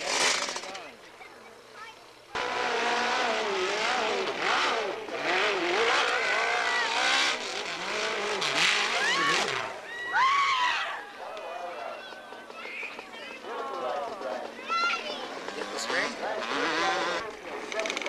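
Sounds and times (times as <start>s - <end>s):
dirt bike engine revving: 0.0s - 1.0s, 2.3s - 10.4s, 12.5s - 18.0s.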